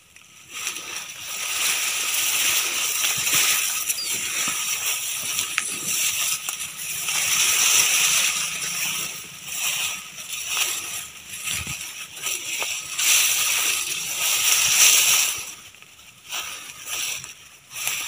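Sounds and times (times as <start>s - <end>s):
dry grass rustling: 0.0s - 18.0s.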